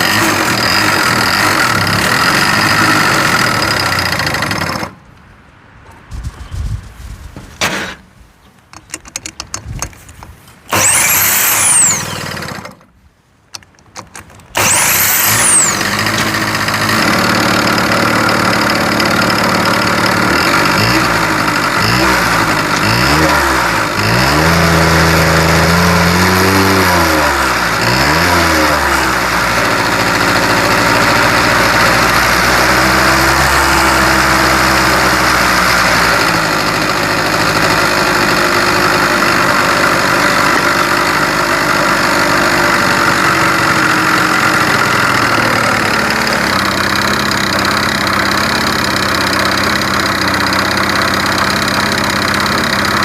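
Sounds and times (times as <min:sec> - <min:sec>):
scooter engine cranking: 0:00.0 - 0:05.0, 0:08.7 - 0:12.9, 0:13.5 - 0:53.0
scooter engine revving and idling: 0:00.0 - 0:05.0, 0:10.7 - 0:12.9, 0:14.6 - 0:53.0.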